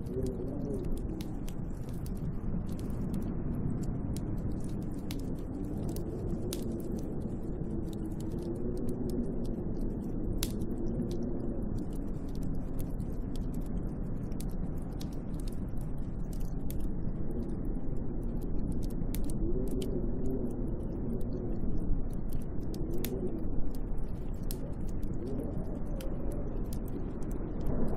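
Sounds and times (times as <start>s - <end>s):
light ticks: 0.0s - 27.9s
snowstorm wind moaning: 0.0s - 27.9s.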